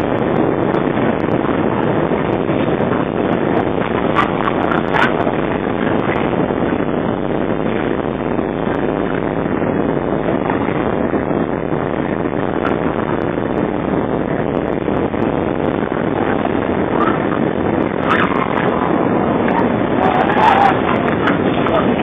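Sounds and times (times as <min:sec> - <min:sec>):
jet engine cabin roar: 0:00.0 - 0:22.0.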